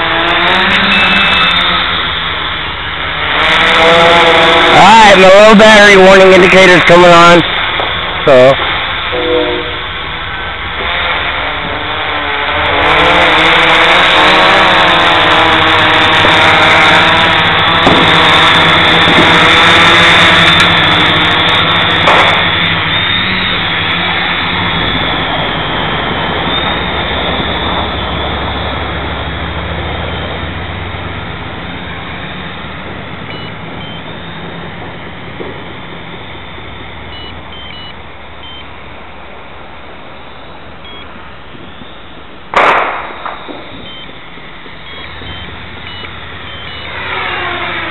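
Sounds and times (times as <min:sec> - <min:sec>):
quadcopter buzzing: 0:00.0 - 0:47.9.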